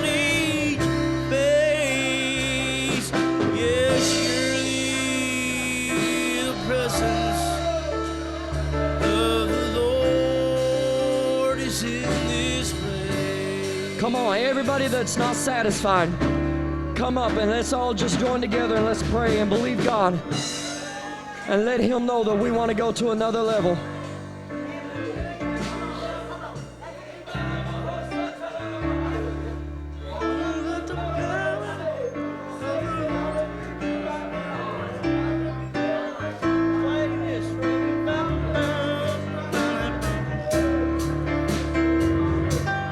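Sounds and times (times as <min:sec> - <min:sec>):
bass line: 0:00.0 - 0:21.2, 0:23.6 - 0:42.9
sustained instrumental chords: 0:00.0 - 0:21.4, 0:22.4 - 0:42.9
guitar: 0:00.0 - 0:42.9
person singing: 0:00.0 - 0:42.9.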